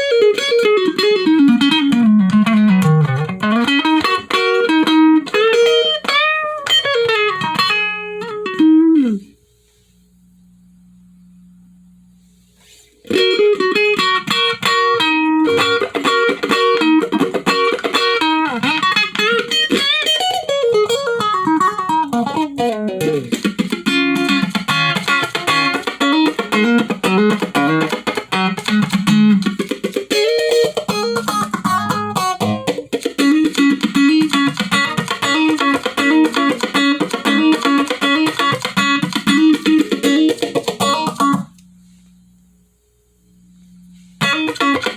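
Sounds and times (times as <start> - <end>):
electric guitar with phaser effect: 0.0 - 9.4, 12.6 - 44.9.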